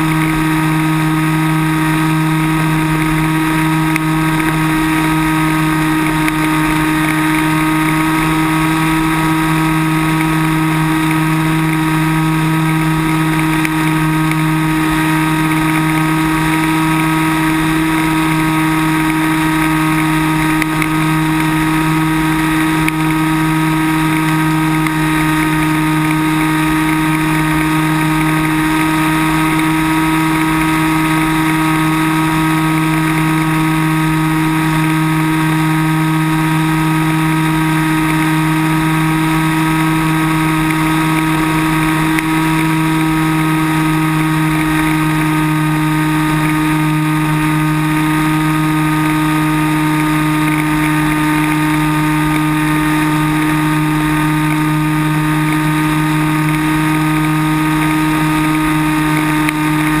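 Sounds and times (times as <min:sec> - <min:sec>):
model plane electric motor and propeller: 0:00.0 - 1:00.0.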